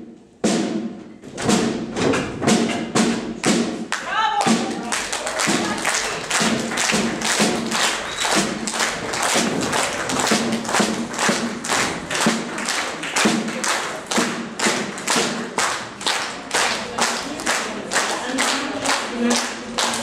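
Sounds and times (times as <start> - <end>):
marching snare drums: 0.0 - 17.2.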